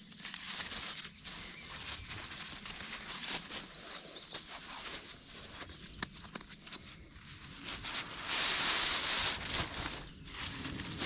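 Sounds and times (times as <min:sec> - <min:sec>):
nylon sack rustling: 0:00.0 - 0:11.0.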